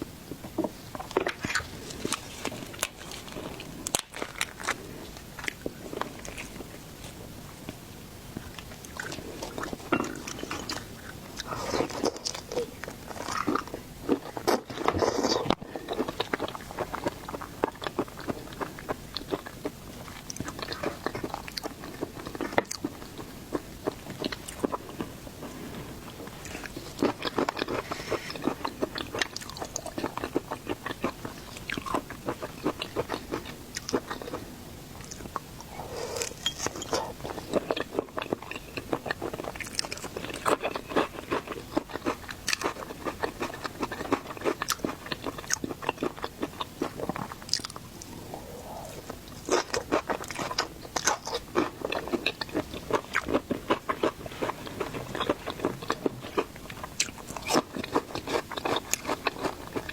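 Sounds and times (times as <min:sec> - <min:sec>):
chewing seafood with crunching: 0:00.3 - 0:59.9.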